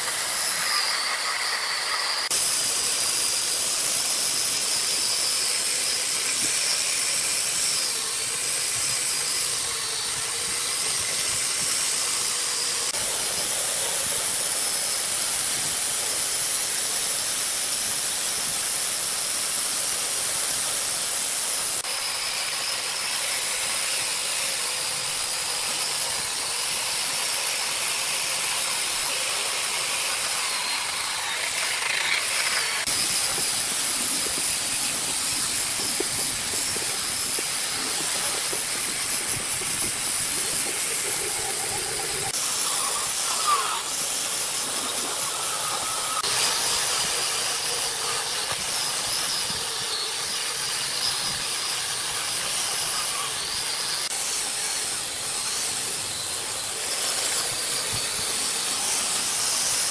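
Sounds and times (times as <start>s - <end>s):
pressurised spray jet hissing: 0.0s - 59.9s.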